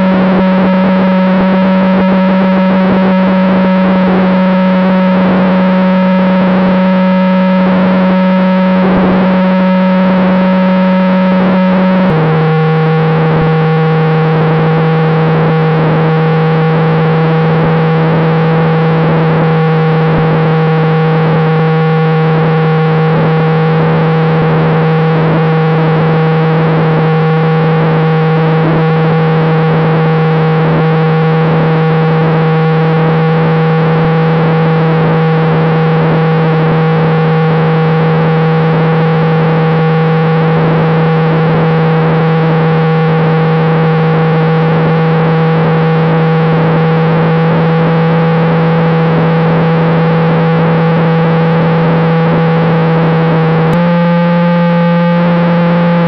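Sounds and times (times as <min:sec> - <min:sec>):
model plane motor buzzing: 0:00.0 - 0:56.0.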